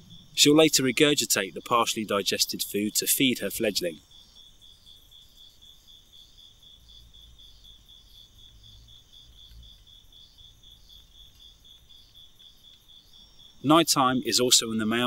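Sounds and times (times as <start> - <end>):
fast chirping night insects: 0.0 - 15.0
slower higher insect call: 0.0 - 15.0.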